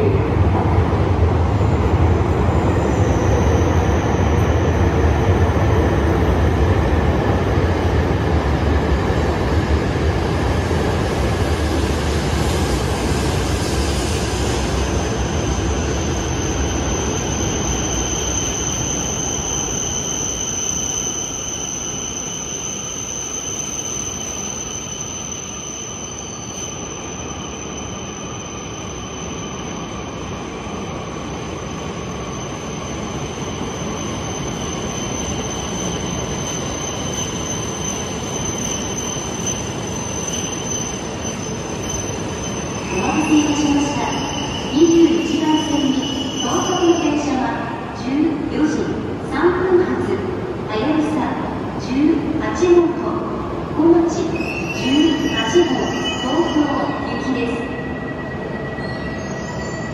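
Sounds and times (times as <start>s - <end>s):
high train whine: 0.0s - 59.9s.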